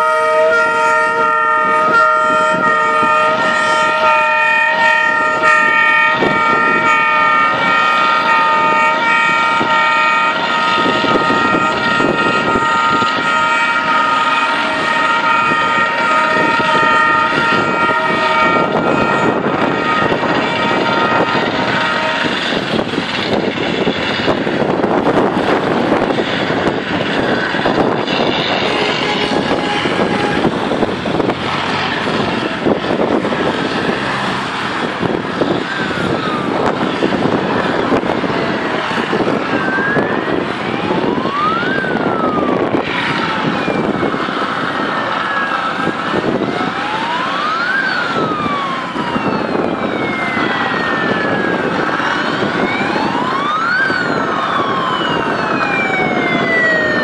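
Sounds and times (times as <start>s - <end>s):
fire engine siren wailing: 0.0s - 57.0s
road traffic: 0.0s - 57.0s.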